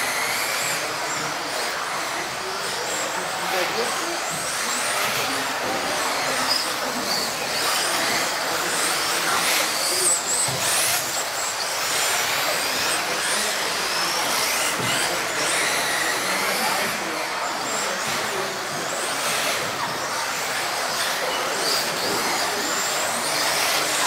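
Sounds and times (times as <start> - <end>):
rc car motors whining: 0.0 - 24.0.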